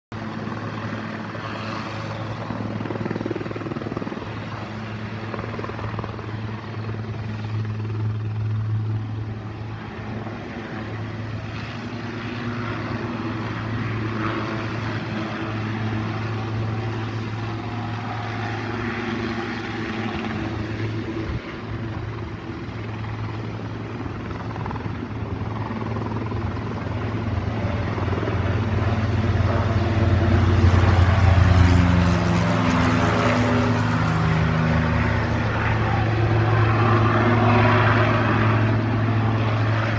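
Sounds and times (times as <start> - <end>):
helicopter engines and rotor drone: 0.1 - 39.9.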